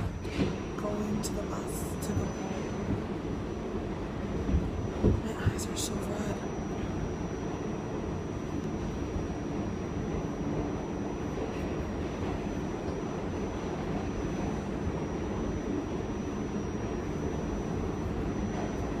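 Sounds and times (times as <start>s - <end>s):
faint high whine: 0.0s - 19.0s
train rumble from inside carriage: 0.0s - 19.0s.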